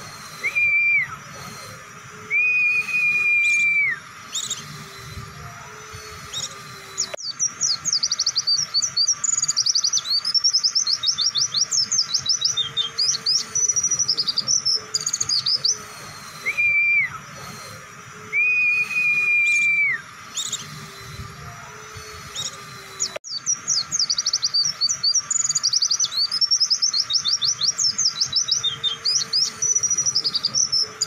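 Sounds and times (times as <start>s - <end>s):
bird chattering song: 0.0s - 4.9s, 5.5s - 31.0s
bird whistles: 0.0s - 5.2s, 5.9s - 21.2s, 21.9s - 31.0s.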